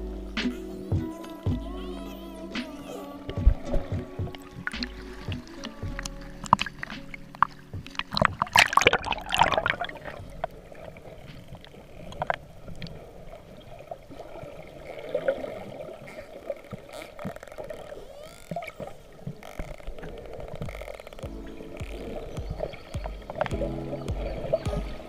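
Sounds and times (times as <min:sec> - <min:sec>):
water splashing and gurgling: 0:00.0 - 0:25.0.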